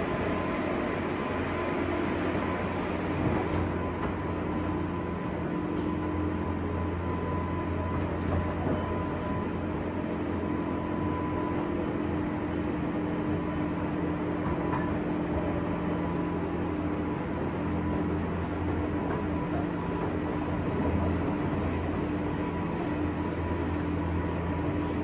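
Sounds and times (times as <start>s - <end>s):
electric train running drone: 0.0s - 25.0s.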